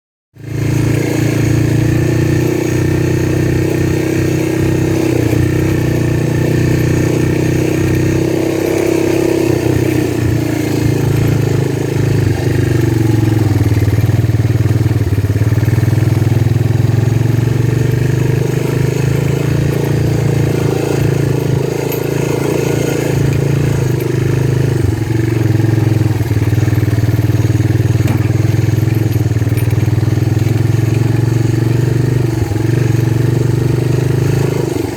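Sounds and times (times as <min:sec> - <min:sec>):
small motorcycle engine running: 0:00.4 - 0:34.9.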